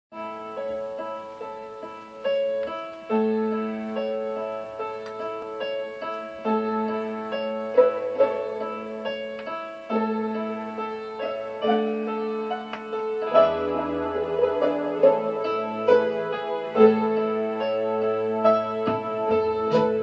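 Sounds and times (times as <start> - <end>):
piano-like keyboard chords: 0.1 - 20.0
orchestra music from a record: 0.3 - 20.0.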